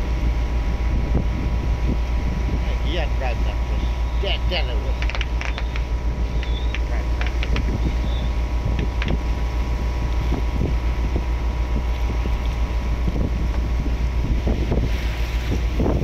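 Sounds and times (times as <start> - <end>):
boat engine droning: 0.0 - 16.0
wind buffeting microphone: 0.0 - 16.0.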